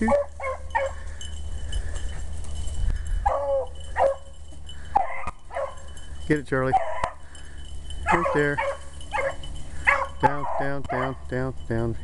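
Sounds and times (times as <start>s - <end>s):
hounds baying: 0.0s - 11.4s.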